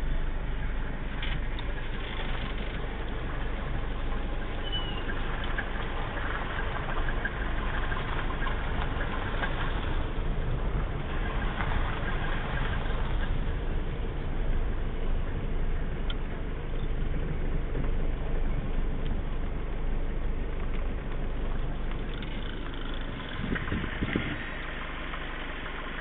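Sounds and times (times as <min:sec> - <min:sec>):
car engine running: 0:00.0 - 0:26.0
tyre and road noise: 0:00.0 - 0:26.0.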